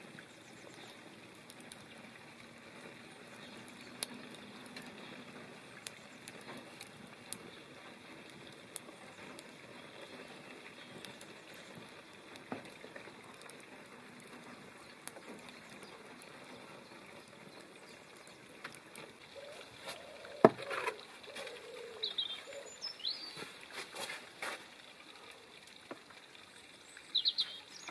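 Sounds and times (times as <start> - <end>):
fire crackles and pops: 0.0 - 24.8
greens sizzling in pan: 0.0 - 27.9.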